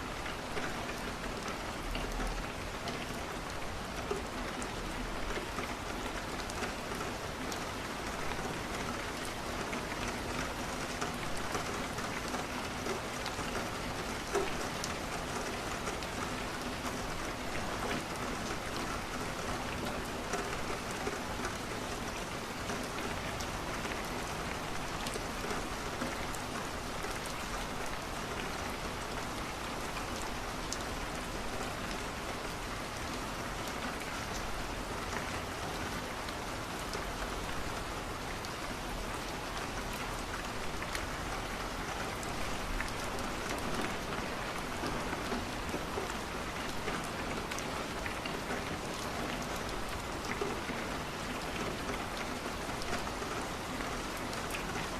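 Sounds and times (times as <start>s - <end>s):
rain falling on a window: 0.0s - 54.9s.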